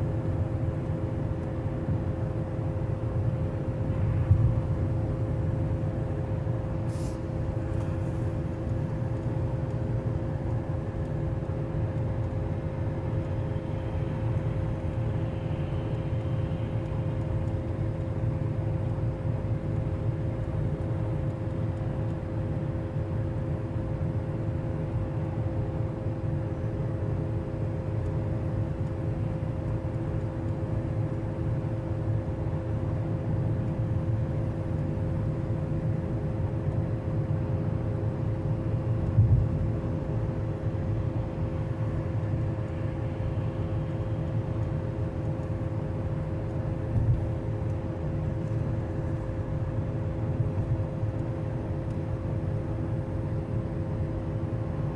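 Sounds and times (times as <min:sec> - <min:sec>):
car road noise: 0:00.0 - 0:54.9
low rumble with even hum: 0:00.0 - 0:54.9.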